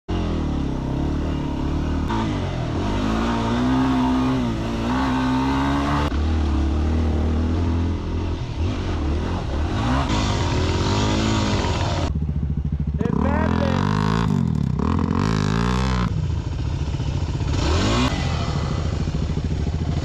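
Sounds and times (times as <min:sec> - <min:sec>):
dirt bike engine revving: 0:00.1 - 0:20.0.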